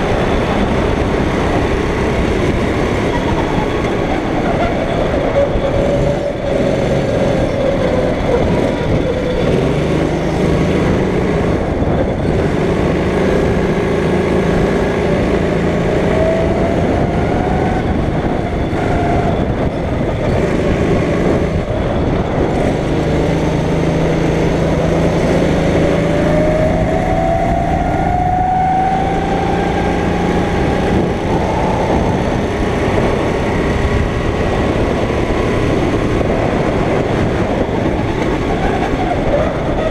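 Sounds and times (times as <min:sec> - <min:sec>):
go-kart engine revving: 0:00.0 - 0:39.9
steady rushing noise: 0:00.0 - 0:39.9.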